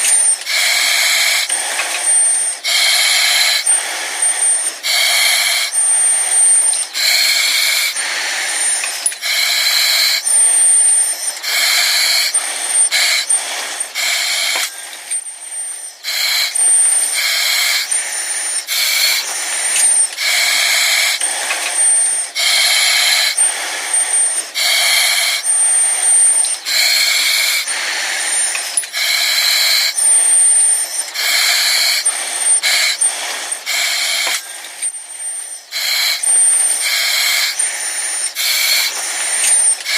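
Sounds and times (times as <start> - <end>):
hissing breaths through oxygen mask: 0.0 - 39.9.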